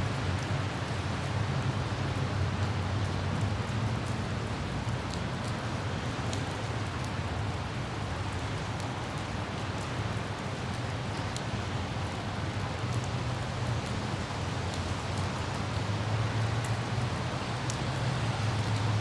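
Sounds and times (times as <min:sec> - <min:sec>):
light rain drops ticking: 0:00.0 - 0:19.0
traffic rumble on wet roads: 0:00.0 - 0:19.0.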